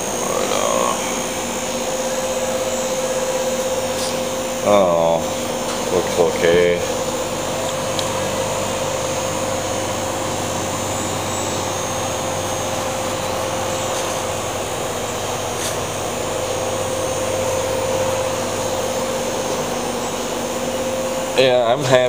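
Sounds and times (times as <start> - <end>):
electric fan whirring: 0.0 - 22.0.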